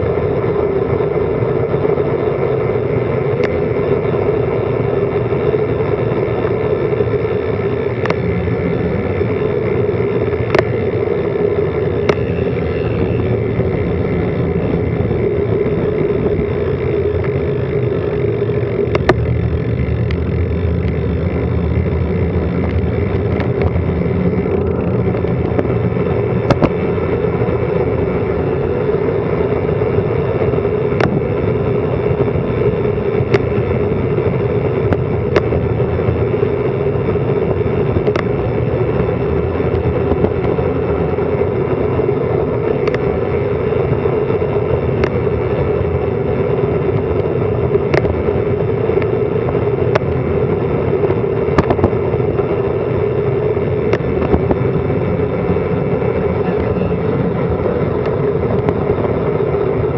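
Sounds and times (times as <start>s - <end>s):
road noise: 0.0s - 59.9s
wind rush: 0.0s - 59.9s.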